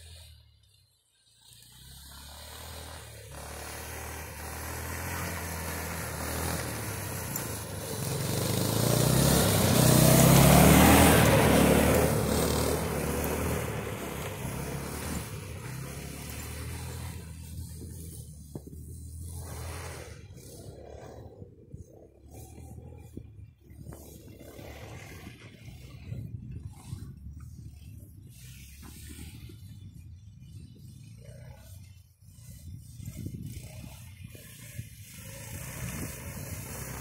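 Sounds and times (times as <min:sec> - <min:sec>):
snowmobile engine passing by: 0:00.0 - 0:37.0.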